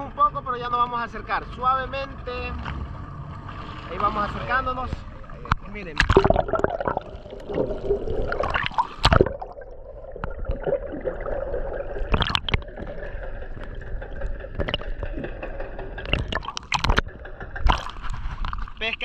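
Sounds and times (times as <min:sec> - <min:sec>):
underwater gurgling and sloshing: 0:00.0 - 0:19.0.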